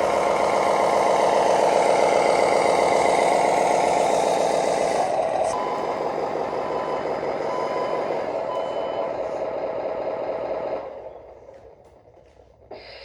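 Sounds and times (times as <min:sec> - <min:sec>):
fast-pulsing mechanical drone: 0:00.0 - 0:11.2.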